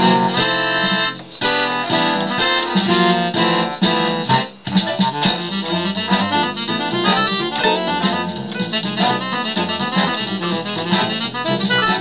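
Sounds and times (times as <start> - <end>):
electronic keyboard note clusters: 0.0 - 12.0.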